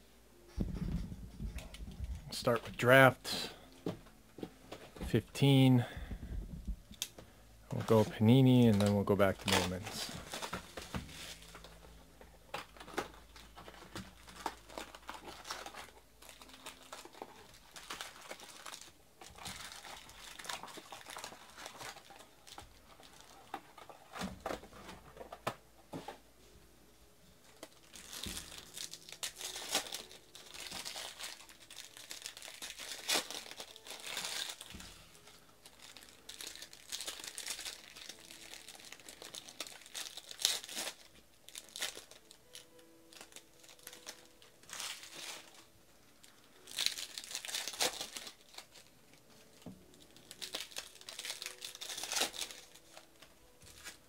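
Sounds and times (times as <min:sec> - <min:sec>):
plastic wrap and foil crinkling: 0:00.5 - 0:06.0, 0:06.9 - 0:26.2, 0:27.4 - 0:54.0.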